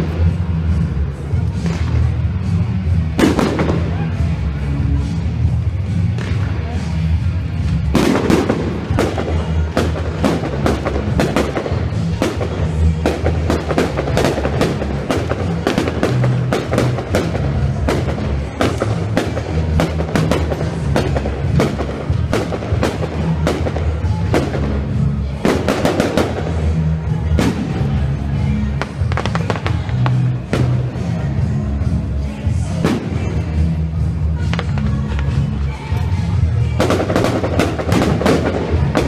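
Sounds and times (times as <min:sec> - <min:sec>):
fireworks bangs and crackles: 0:00.0 - 0:39.0
loud music: 0:00.0 - 0:39.0.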